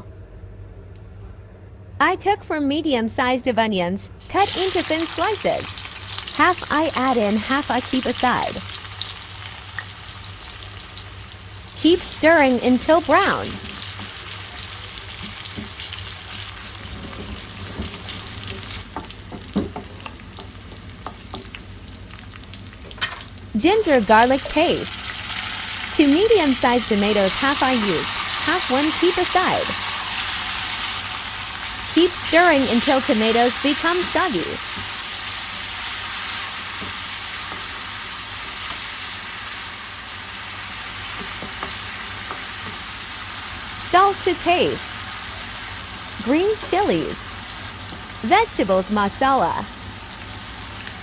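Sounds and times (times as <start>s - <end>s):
onions sizzling in a pan: 4.2s - 51.0s.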